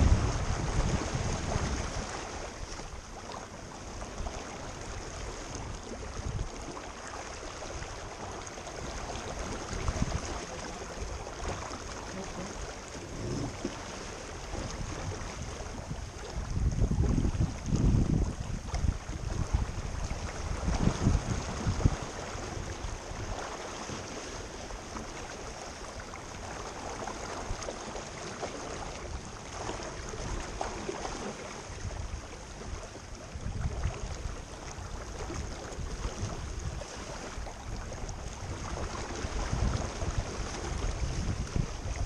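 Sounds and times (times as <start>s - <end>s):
wind buffeting microphone: 0.0s - 3.1s, 4.0s - 6.8s, 7.6s - 25.3s, 28.9s - 42.0s
water splashing along hull: 0.0s - 42.0s.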